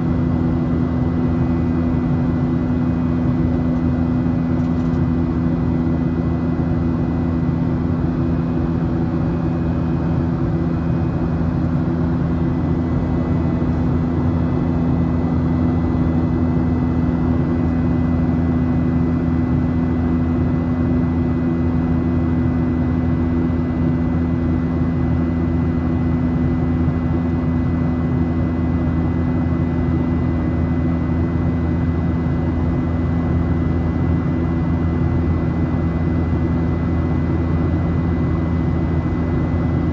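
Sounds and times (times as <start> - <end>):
jet engine and airflow noise: 0.0 - 39.9.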